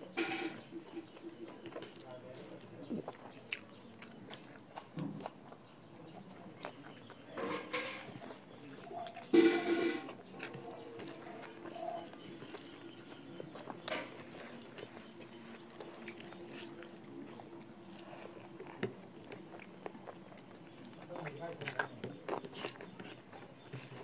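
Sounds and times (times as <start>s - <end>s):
person chewing food: 0.6s - 24.0s.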